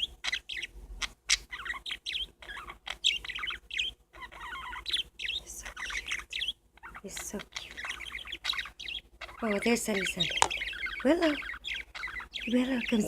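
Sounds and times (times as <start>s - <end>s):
parakeets chattering: 0.0s - 13.0s.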